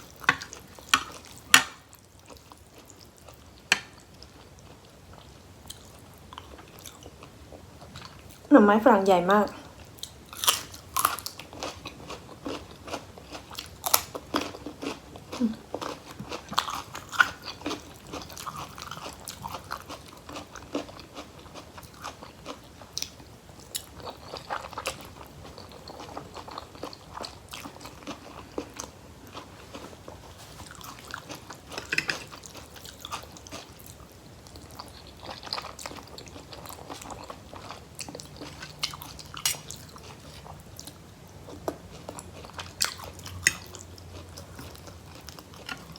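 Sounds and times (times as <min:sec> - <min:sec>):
chewing crunchy food: 0:00.0 - 0:08.5, 0:09.5 - 0:45.9.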